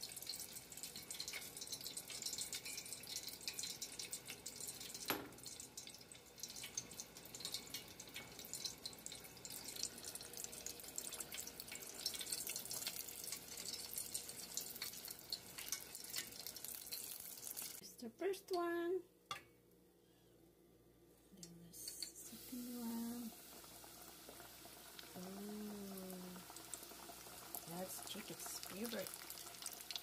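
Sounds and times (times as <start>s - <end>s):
chicken frying in hot oil: 0.0s - 17.8s, 22.2s - 30.0s.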